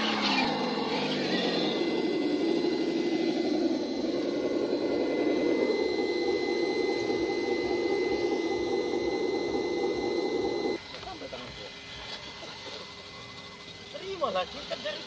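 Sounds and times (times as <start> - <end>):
toy truck electric motors whining: 0.0 - 15.0.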